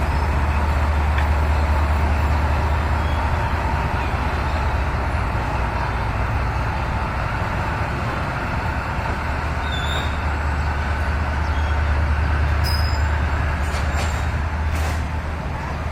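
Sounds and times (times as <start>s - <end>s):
diesel locomotive engine hum: 0.0s - 15.9s.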